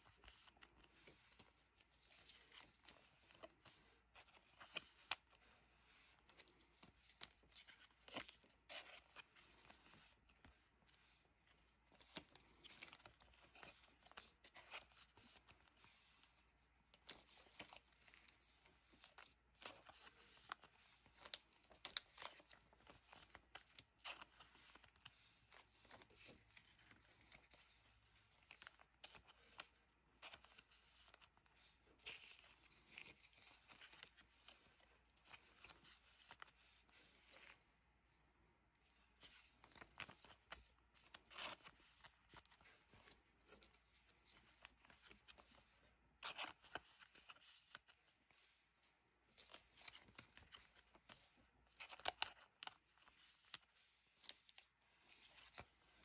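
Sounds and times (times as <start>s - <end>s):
plastic card sleeves crinkling: 0.0s - 37.7s, 38.9s - 56.0s.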